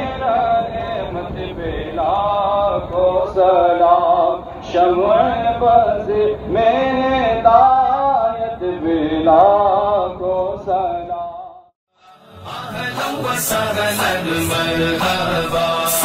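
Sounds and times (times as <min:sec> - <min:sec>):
man chanting devotional song: 0:00.0 - 0:16.0.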